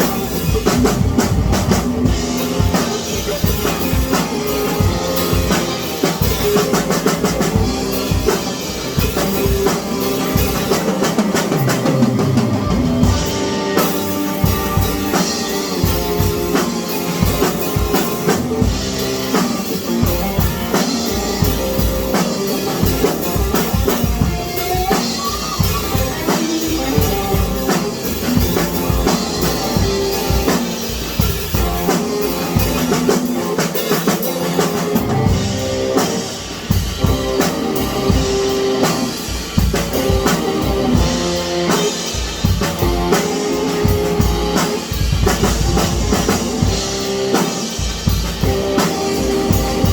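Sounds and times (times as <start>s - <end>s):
bass drum steady beat: 0.0s - 49.9s
rock music with drums and guitar: 0.0s - 49.9s.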